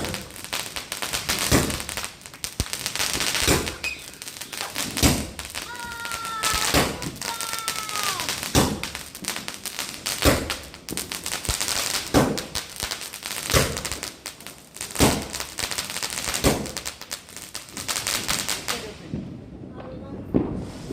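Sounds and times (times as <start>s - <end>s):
firework bangs: 0.0s - 20.9s
firework crackling: 0.0s - 20.9s.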